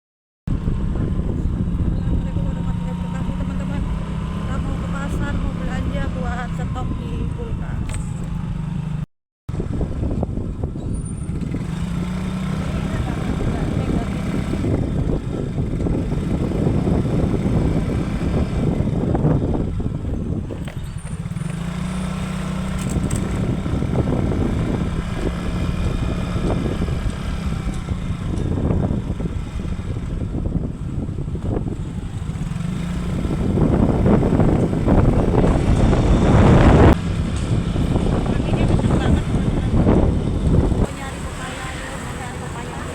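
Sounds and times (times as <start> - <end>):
motorcycle engine running: 0.5 - 42.9
wind rumbling on microphone: 0.5 - 42.9.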